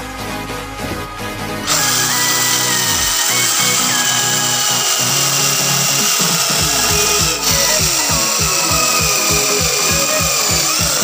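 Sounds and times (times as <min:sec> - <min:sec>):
electronic music: 0:00.0 - 0:11.0
cordless drill running in wood: 0:01.7 - 0:11.0.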